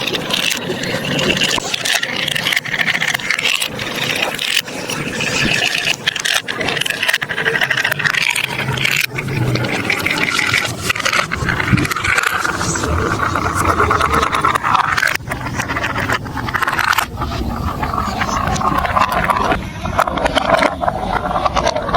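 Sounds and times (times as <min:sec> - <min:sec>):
marbles rolling on plastic track: 0:00.0 - 0:21.9.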